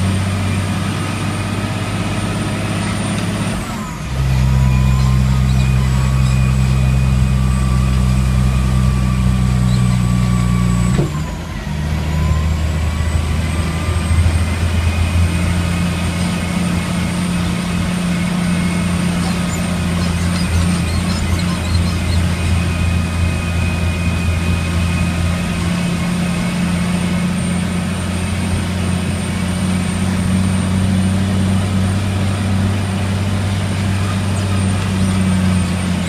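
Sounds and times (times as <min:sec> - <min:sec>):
diesel truck engine running: 0:00.0 - 0:36.0.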